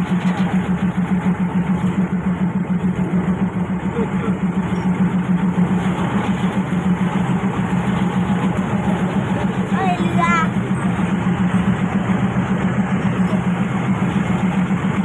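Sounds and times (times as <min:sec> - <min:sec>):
diesel railcar engine drone: 0:00.0 - 0:15.0.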